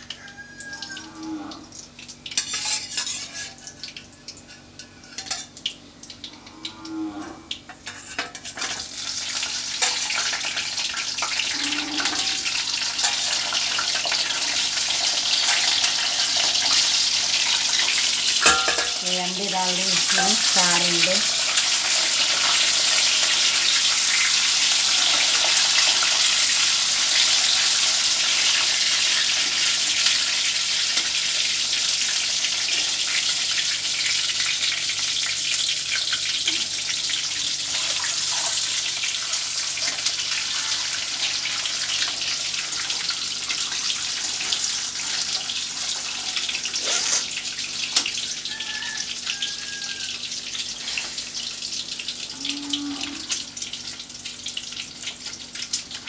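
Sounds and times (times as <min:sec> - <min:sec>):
eggs sizzling in hot oil: 0:00.0 - 0:01.3, 0:02.0 - 0:56.0.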